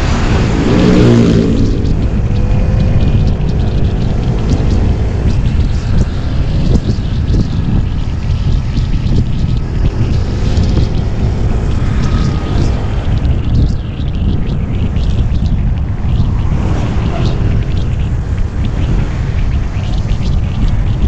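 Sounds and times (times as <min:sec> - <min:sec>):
scooter engine rumble: 0:00.0 - 0:21.0
wind rushing over microphone: 0:00.0 - 0:21.0.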